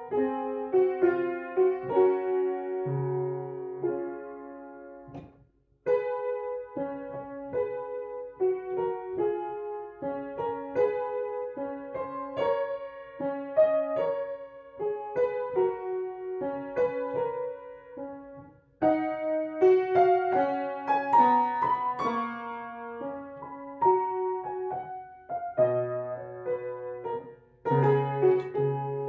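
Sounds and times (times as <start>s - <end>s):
upright piano melody: 0.0s - 29.0s.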